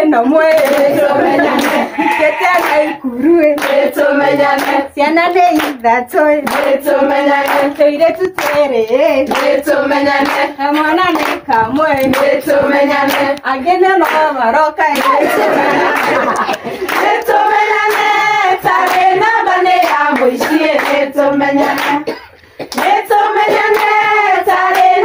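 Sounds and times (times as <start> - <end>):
rhythmic hand-clapping: 0.0 - 25.0
women singing in unison: 0.0 - 25.0.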